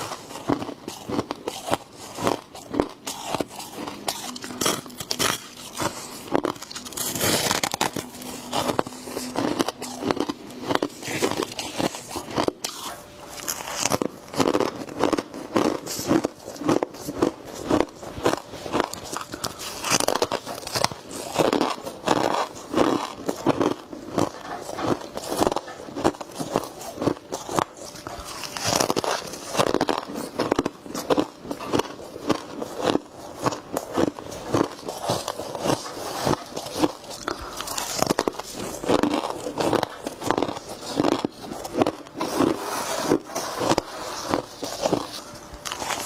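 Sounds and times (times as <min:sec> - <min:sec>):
person chewing crunchy frost: 0:00.0 - 0:46.0.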